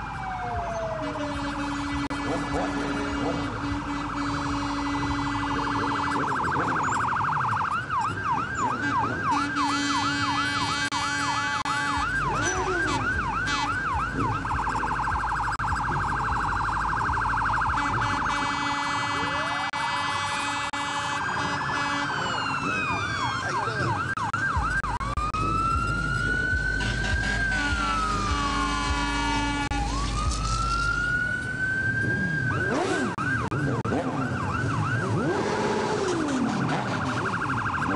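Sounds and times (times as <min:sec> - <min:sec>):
siren fast yelp: 0:00.0 - 0:37.9
siren high warble: 0:00.0 - 0:37.9
siren slow wail: 0:00.0 - 0:37.9.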